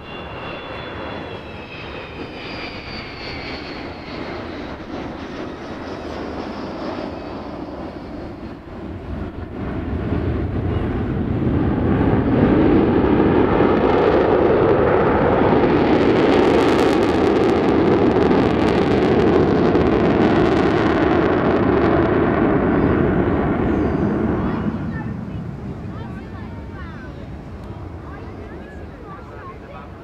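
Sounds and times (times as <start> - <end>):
jet roar overhead: 0.0 - 30.0.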